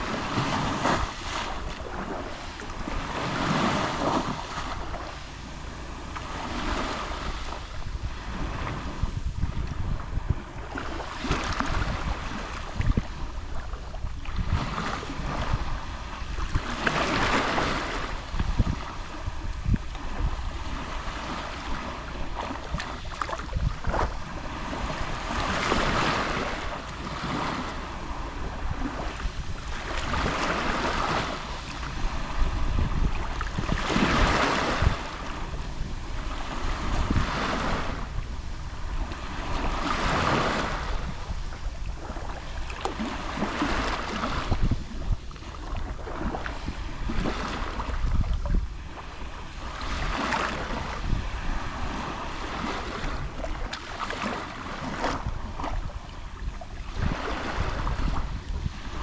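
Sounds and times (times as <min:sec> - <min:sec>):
sea waves lapping on shore: 0:00.0 - 0:59.0.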